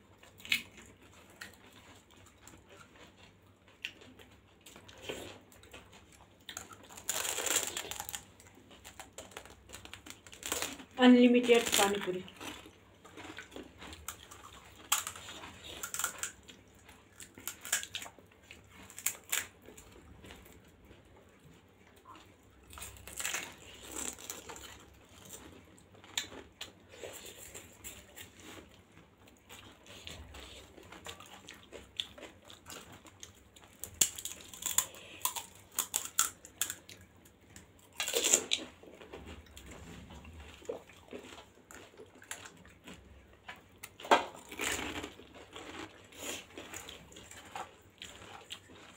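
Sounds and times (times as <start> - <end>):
crisp shells crunching and chewing: 0.1 - 48.9.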